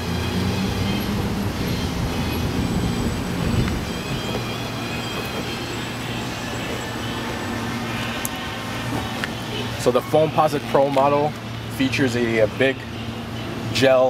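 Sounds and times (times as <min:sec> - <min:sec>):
passing vehicle rumble: 0:00.0 - 0:14.0.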